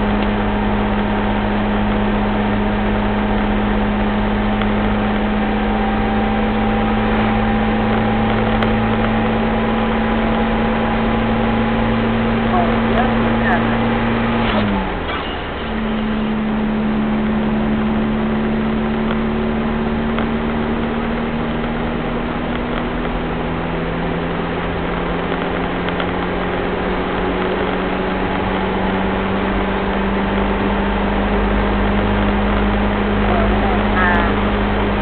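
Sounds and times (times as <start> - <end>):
diesel engine running: 0.0 - 35.0
road and tyre noise: 0.0 - 35.0.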